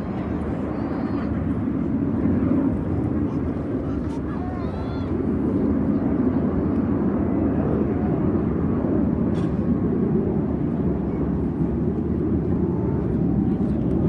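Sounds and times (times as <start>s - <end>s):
aircraft engines rumbling: 0.0s - 14.0s.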